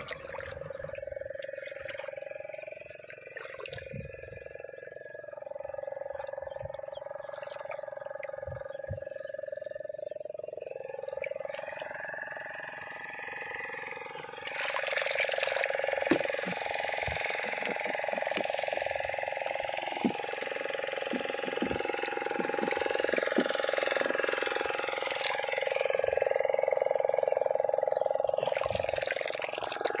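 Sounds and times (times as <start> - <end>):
shallow water sloshing and splashing: 0.0 - 12.8, 14.1 - 26.6, 28.3 - 30.0
steady wavering hum: 0.0 - 30.0.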